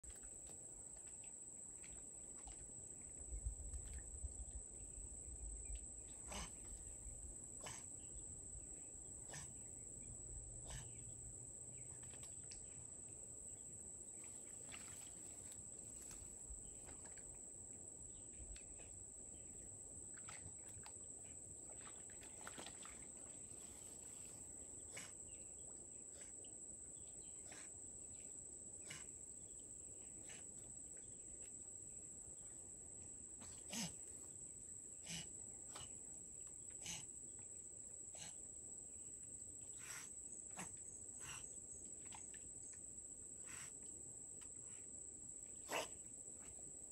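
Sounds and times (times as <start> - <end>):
insects droning: 0.1 - 46.9.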